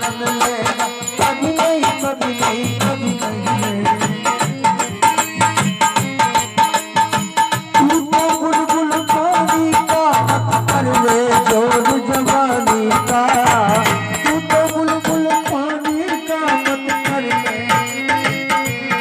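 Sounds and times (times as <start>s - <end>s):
hand drum fast rhythm: 0.0s - 19.0s
rattling percussion: 0.0s - 19.0s.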